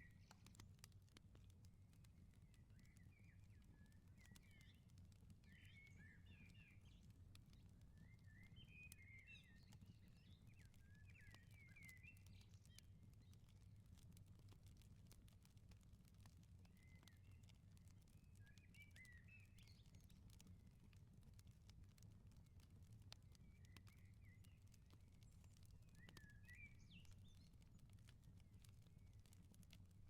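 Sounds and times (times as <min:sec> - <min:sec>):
wood fire crackling and popping: 0:00.1 - 0:30.0.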